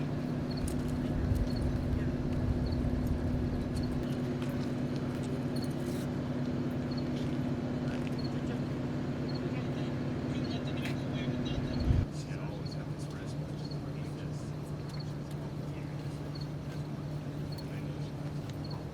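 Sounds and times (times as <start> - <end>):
low mechanical hum: 0.0 - 18.9.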